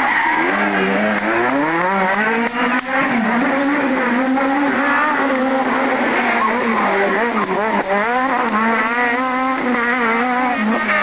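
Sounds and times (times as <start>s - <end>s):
rally car engine revving hard: 0.0s - 11.0s.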